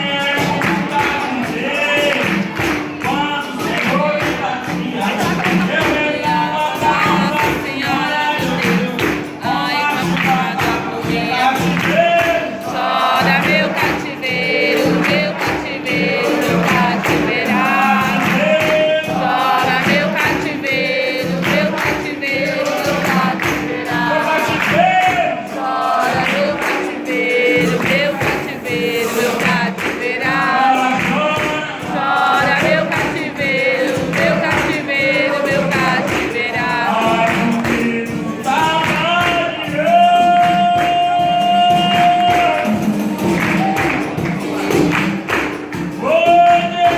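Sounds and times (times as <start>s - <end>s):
group singing together: 0.0s - 46.9s
percussion rhythm with tambourine: 0.0s - 46.9s.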